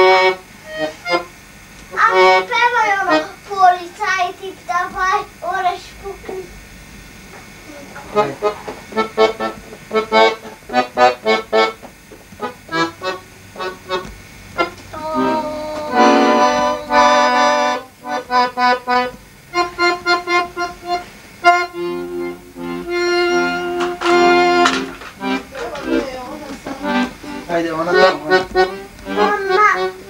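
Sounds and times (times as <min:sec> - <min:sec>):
button accordion playing: 0:00.0 - 0:04.2, 0:08.1 - 0:30.0.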